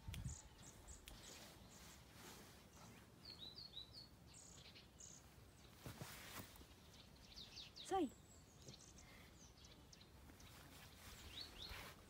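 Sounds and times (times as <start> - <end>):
faint small bird chirps: 0.0 - 12.0.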